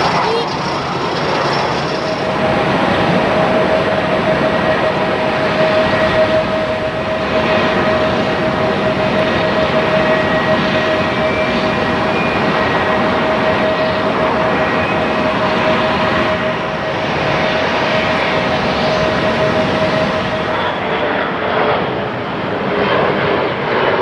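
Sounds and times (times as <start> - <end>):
steady engine tone: 0.0 - 21.1
jet engines roaring: 0.0 - 24.0.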